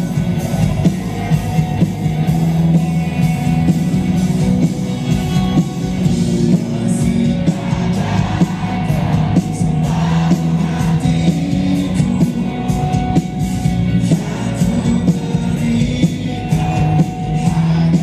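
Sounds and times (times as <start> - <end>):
live rock band with singing: 0.0 - 18.0.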